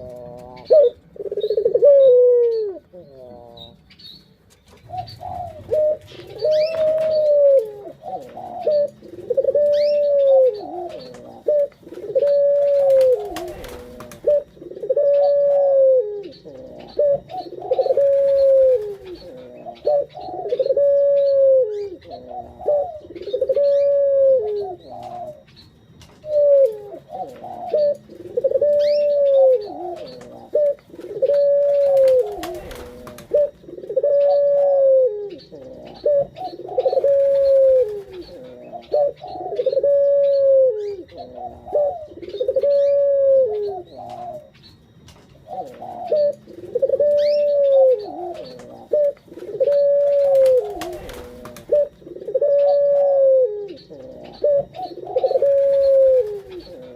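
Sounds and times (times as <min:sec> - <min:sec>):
dove cooing: 0:00.0 - 0:56.9
small birds chirping: 0:00.0 - 0:56.9.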